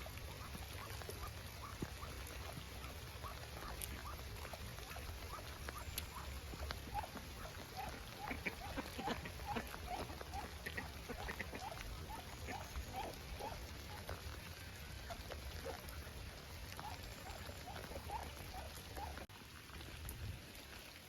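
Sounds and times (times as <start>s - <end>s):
ducks calling softly: 0.0s - 19.3s
steady rain falling: 0.0s - 21.0s.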